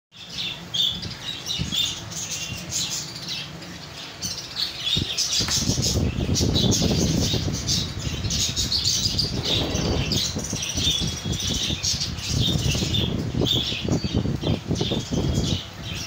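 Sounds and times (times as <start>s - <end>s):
pet birds chattering and squawking: 0.2s - 16.0s.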